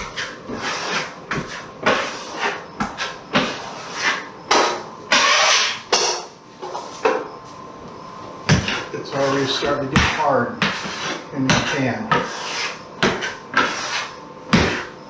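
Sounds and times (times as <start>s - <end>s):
drywall knife scraping compound: 0.0s - 6.0s, 8.5s - 15.0s.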